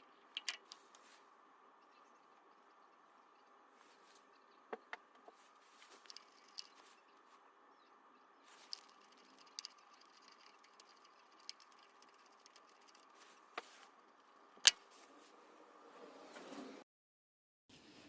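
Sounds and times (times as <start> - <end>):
faint steady hum: 0.0 - 16.6.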